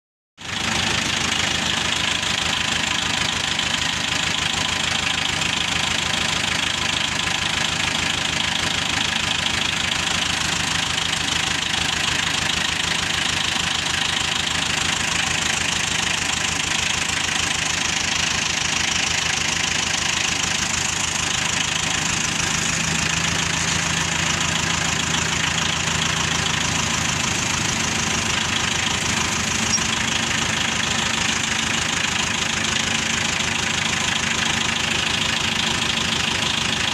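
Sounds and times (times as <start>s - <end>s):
tractor engine idling: 0.4s - 36.9s.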